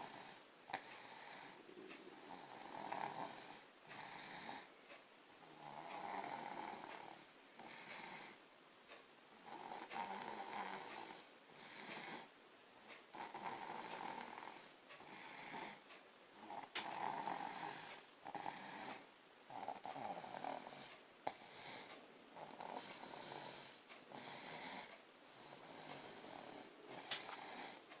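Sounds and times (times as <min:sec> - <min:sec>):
snoring breaths: 0:00.0 - 0:12.3, 0:12.9 - 0:28.0.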